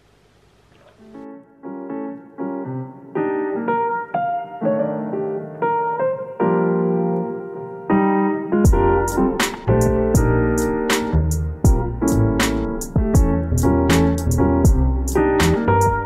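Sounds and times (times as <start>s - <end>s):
piano melody over chords: 1.0s - 16.0s.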